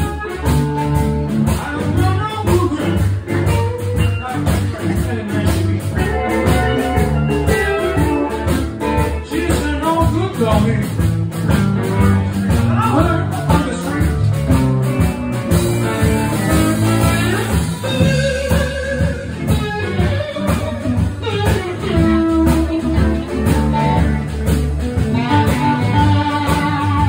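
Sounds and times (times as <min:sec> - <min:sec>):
live band with guitars: 0:00.0 - 0:27.0.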